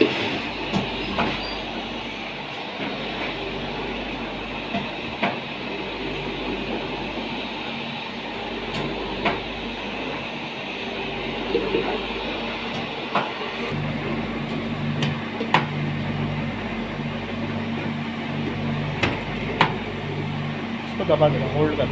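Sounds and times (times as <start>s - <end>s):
machine hum and rattle: 0.0s - 21.9s.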